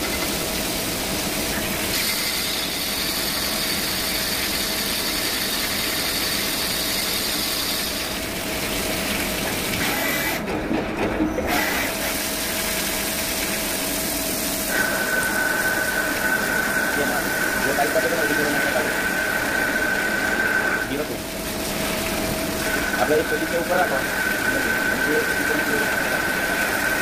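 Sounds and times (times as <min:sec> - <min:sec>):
coolant hiss: 0:00.0 - 0:10.5, 0:11.4 - 0:27.0
lathe machine hum: 0:00.0 - 0:27.0.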